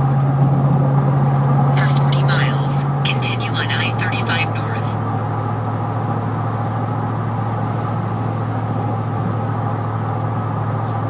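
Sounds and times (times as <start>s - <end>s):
pickup engine cruising hum: 0.0s - 11.0s
road noise hiss: 0.0s - 11.0s.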